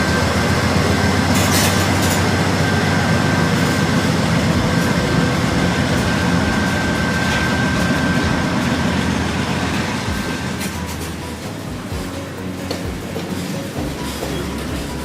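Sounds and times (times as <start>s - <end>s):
high wheel squeal: 0.0s - 15.0s
train wheels rumbling on rail: 0.0s - 15.0s.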